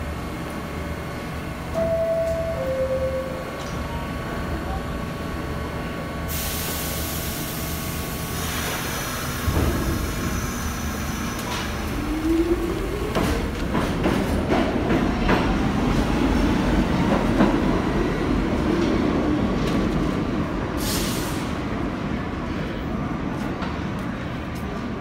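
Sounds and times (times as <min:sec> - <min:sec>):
subway train motors whining: 0:00.0 - 0:25.0
train rumble: 0:00.0 - 0:25.0.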